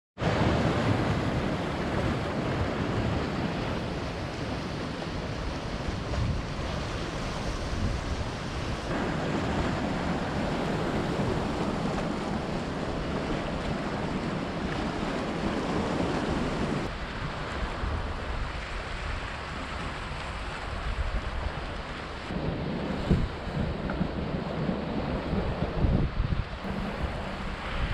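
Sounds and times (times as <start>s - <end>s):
surf rushing: 0.2s - 27.9s
wind buffeting microphone: 0.2s - 27.9s.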